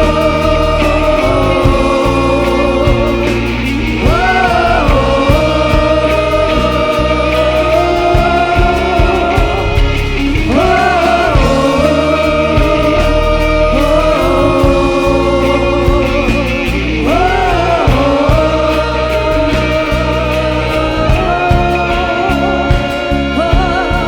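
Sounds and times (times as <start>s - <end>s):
band accompaniment: 0.0s - 24.0s
person singing long notes: 0.0s - 24.0s.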